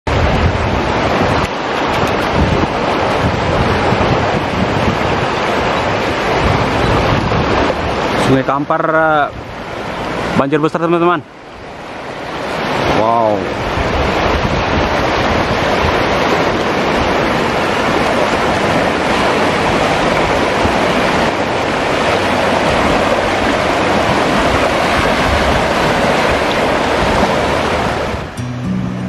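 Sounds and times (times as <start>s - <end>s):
rushing floodwater: 0.1s - 28.4s.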